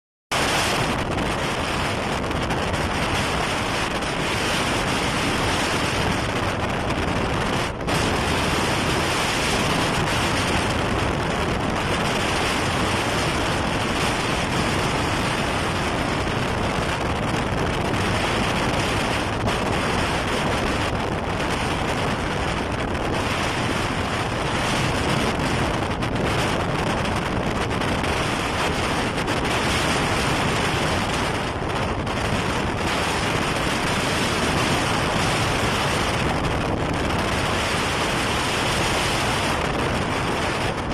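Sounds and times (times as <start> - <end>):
rough sea: 0.3 - 40.9
wind buffeting microphone: 0.3 - 40.9.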